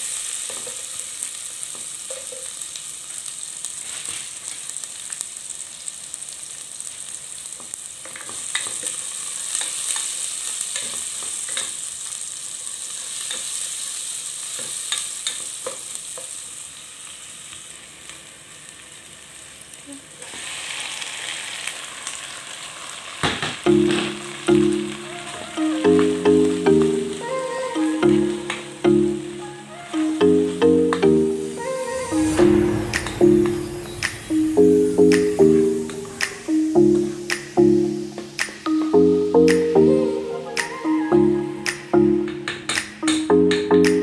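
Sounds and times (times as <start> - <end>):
vegetables sizzling in oil: 0.0 - 40.8.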